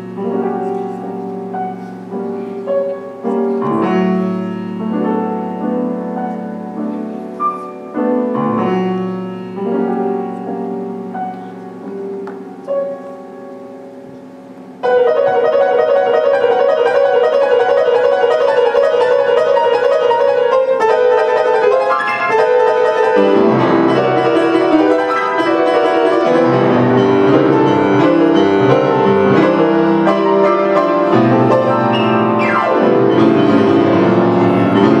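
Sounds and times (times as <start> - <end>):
grand piano playing: 0.0 - 35.0.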